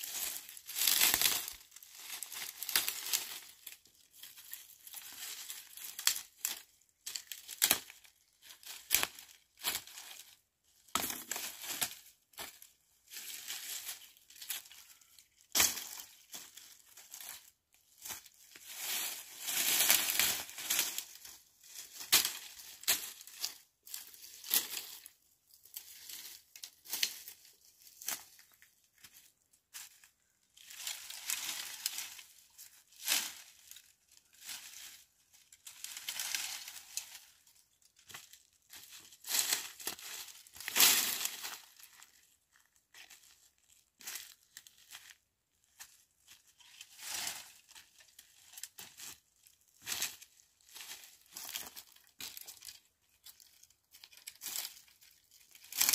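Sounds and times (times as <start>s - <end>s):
footsteps crunching on dry leaves: 0.0s - 10.4s, 11.0s - 25.1s, 25.7s - 54.7s
twigs rustling and crackling: 0.0s - 55.9s.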